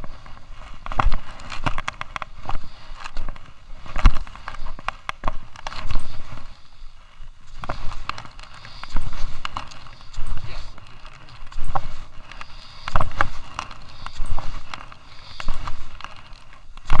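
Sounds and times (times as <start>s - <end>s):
skis scraping over snow: 0.0s - 17.0s.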